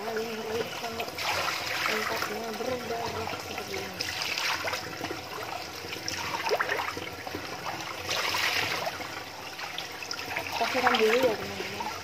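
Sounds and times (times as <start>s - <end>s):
hose water running: 0.0s - 12.0s
water splashing: 0.0s - 12.0s.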